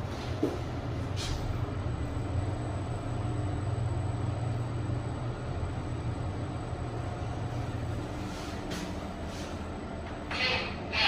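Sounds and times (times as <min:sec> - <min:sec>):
lift low hum: 0:00.0 - 0:10.3.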